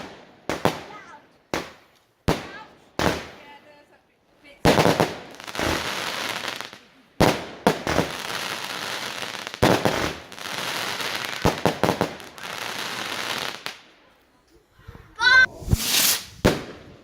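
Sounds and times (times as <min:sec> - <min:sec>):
fireworks bangs and pops: 0:00.0 - 0:03.6, 0:04.6 - 0:13.9, 0:15.5 - 0:17.0.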